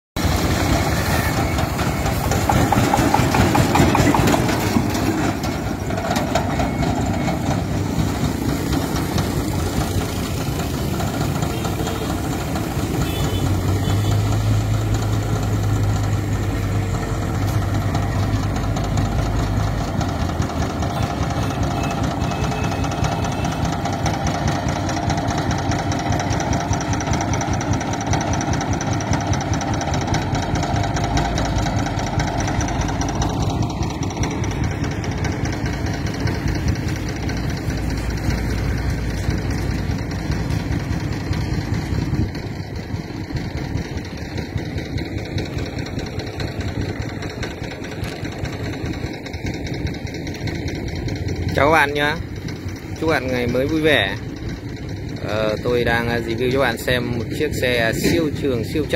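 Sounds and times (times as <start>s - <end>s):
diesel engine running: 0.2s - 58.9s.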